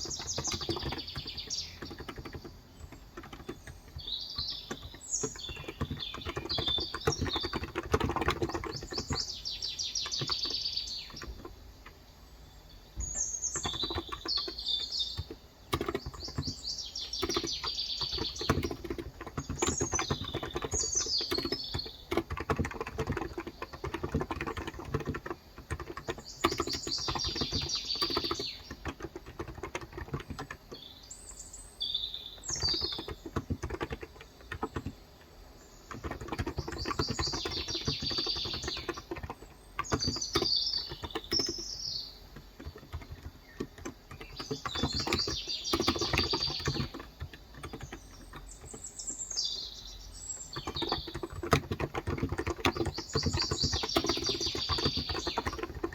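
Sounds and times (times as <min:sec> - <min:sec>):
bird singing trills: 0:00.0 - 0:11.6, 0:12.3 - 0:55.9
keyboard typing: 0:00.0 - 0:12.0, 0:13.0 - 0:31.0, 0:32.3 - 0:49.6, 0:50.4 - 0:55.9.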